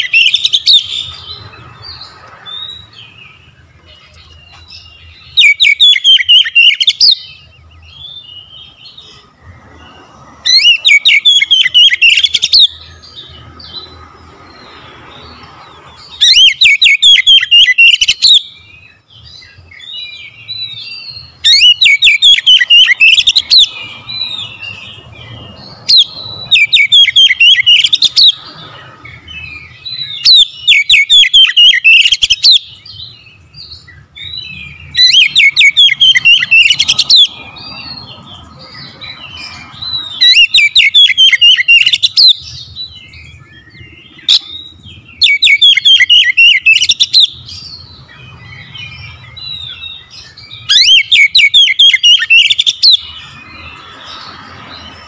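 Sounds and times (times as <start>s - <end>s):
bird singing loud bursts: 0.0s - 55.0s
soft bird twittering: 0.0s - 55.0s.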